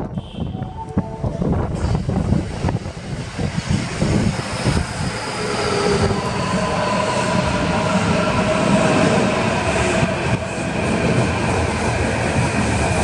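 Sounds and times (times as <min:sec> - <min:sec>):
train cars rumbling: 0:00.0 - 0:13.0
train whining tones: 0:00.2 - 0:13.0.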